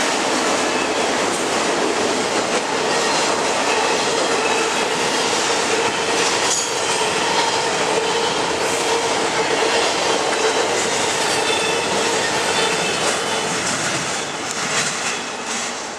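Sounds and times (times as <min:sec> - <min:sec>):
freight train cars rolling past: 0:00.0 - 0:15.9.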